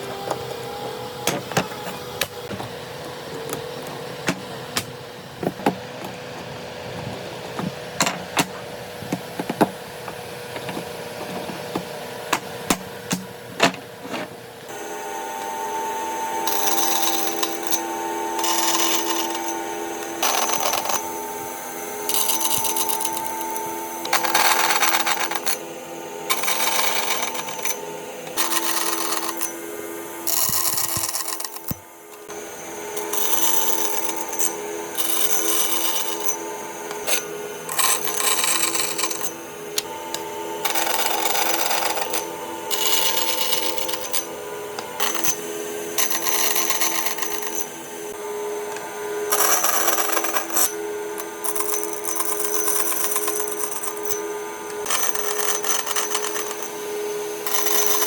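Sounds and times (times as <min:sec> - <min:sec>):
power tool cutting wood: 0:00.0 - 0:58.0.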